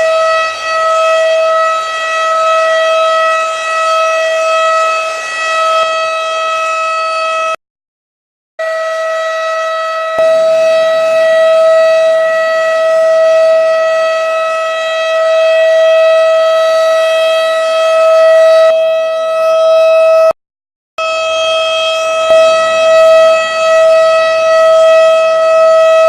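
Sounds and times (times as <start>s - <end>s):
synthesized siren tone: 0.0s - 7.6s, 8.6s - 20.4s, 21.0s - 26.0s.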